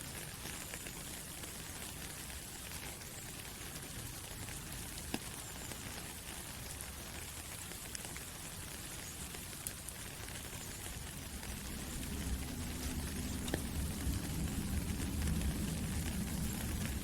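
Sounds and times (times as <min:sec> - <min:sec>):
soft rain through trees: 0:00.0 - 0:17.0.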